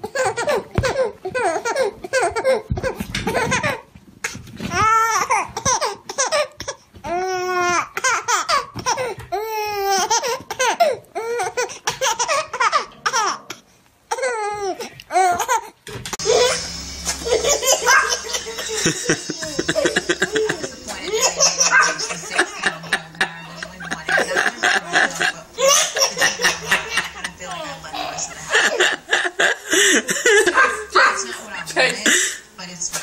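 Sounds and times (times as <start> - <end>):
baby laughing: 0.0 - 3.9, 4.8 - 32.0.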